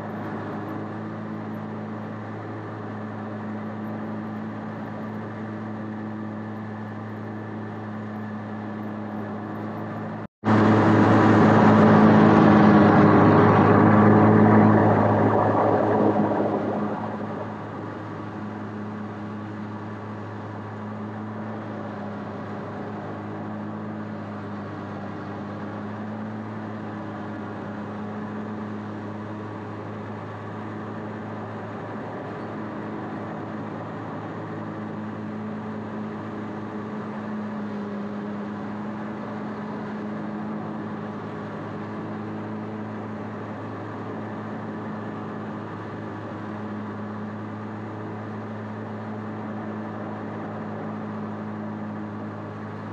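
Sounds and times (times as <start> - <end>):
mower engine droning: 0.0 - 52.9.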